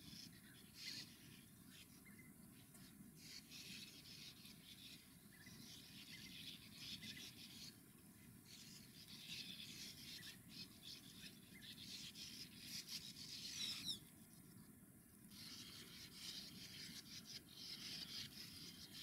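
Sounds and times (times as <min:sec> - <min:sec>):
birds twittering scratchily: 0:00.0 - 0:19.0.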